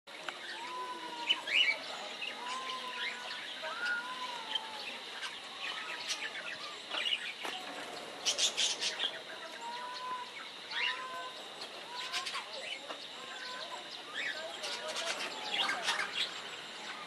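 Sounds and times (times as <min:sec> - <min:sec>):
small birds chirping and calling: 0:00.1 - 0:17.0.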